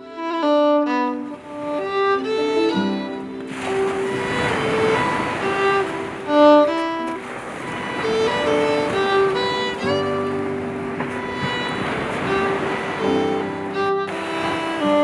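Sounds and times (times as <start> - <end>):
fiddle melody: 0.0 - 15.0.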